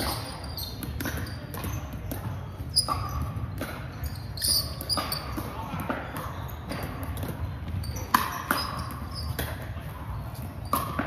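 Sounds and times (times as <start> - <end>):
shoes squeaking on court: 0.0 - 11.0.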